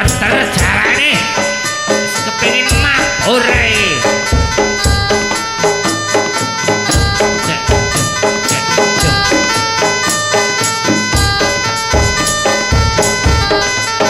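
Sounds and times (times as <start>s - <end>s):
shrill reedy trumpet melody: 0.0s - 14.0s.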